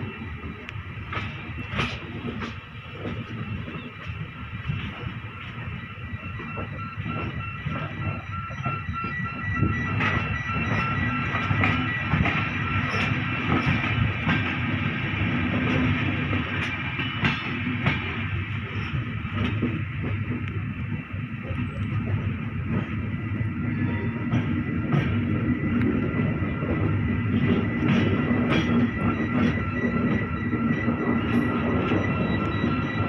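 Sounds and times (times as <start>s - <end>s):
high wheel squeal: 0.0s - 19.2s, 21.7s - 33.0s
wheels rumbling on rail: 0.0s - 33.0s.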